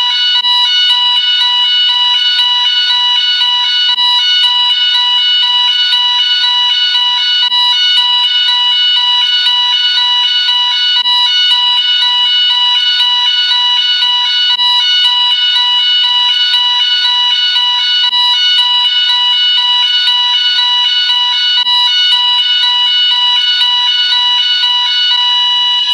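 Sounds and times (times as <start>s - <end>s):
fire alarm sounder: 0.0s - 25.9s.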